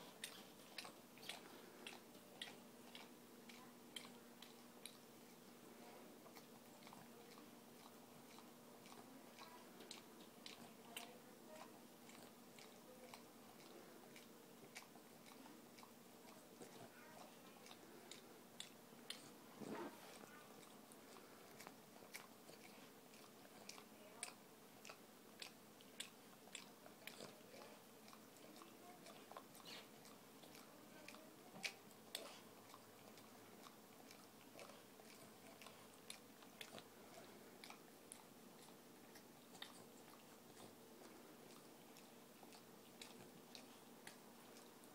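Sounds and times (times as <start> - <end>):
dog licking wet smacks: 6.2 - 44.9.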